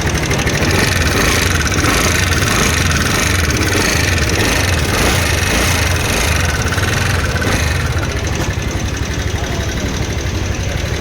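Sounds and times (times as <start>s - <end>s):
fast even rattle: 0.0s - 11.0s
scooter engine idling: 0.0s - 11.0s.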